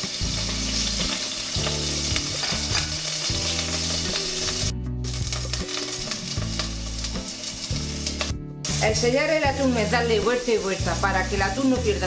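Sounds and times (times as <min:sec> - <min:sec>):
background music: 0:00.0 - 0:12.0
oil sizzling in a pot: 0:00.0 - 0:12.0.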